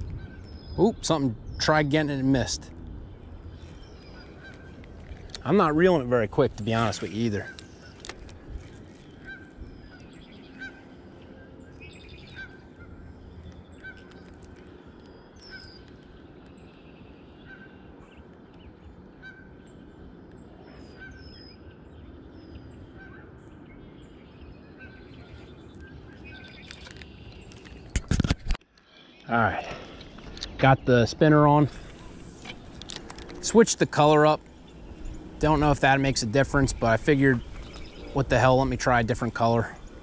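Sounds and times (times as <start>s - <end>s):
birds calling: 0.0s - 28.1s, 28.7s - 40.0s.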